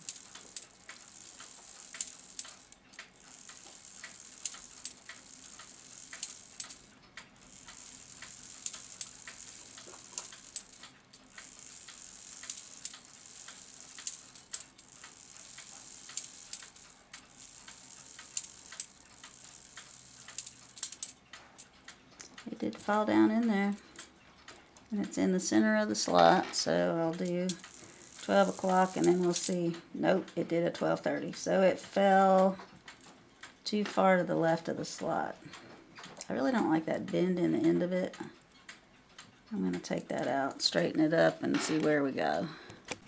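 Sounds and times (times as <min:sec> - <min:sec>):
clock mechanism whirring and clicking: 0:00.0 - 0:43.0.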